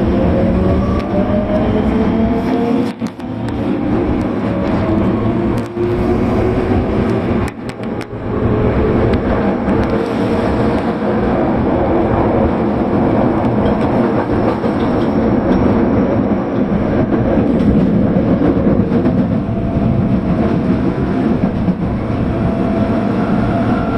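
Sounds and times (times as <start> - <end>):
subway train running on rails: 0.0 - 23.9.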